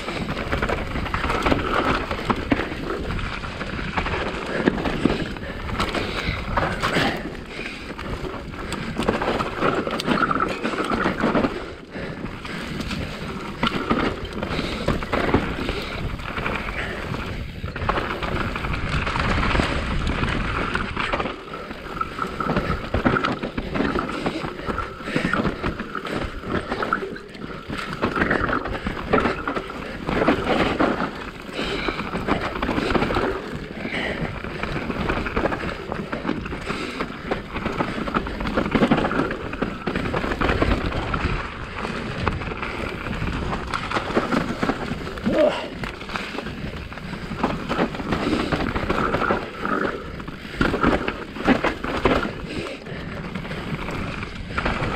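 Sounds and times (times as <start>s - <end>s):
bike clicking and clattering over bumps: 0.0s - 54.9s
bike tyres rushing on dirt trail: 0.0s - 54.9s.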